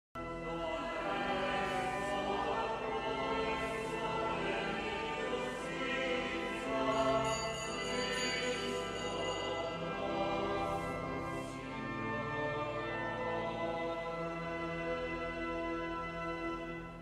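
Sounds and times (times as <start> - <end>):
choir with instrumental accompaniment: 0.2 - 17.0.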